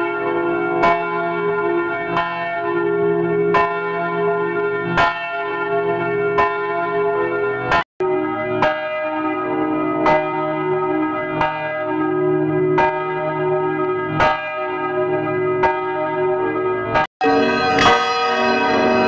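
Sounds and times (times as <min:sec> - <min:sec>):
church bell tolling: 0:00.0 - 0:19.0.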